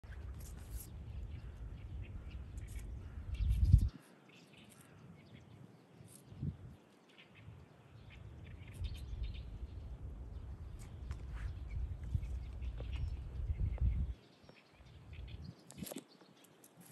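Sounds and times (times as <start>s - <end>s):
wind rumbling on microphone: 0.0s - 4.1s, 6.2s - 16.0s
birds chirping: 0.1s - 16.9s.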